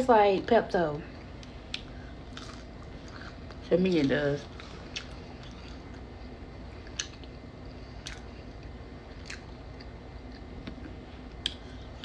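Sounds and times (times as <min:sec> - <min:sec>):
person chewing food: 0:01.1 - 0:12.0.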